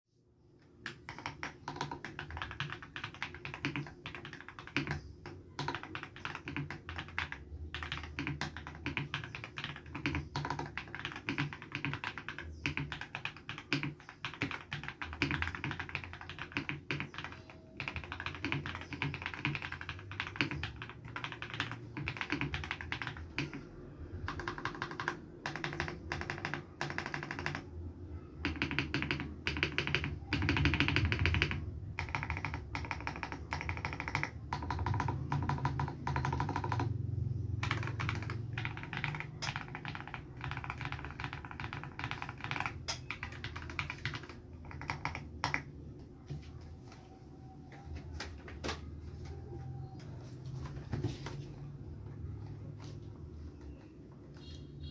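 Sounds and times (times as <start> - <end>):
fast typing on mechanical keyboard: 0.8 - 45.8.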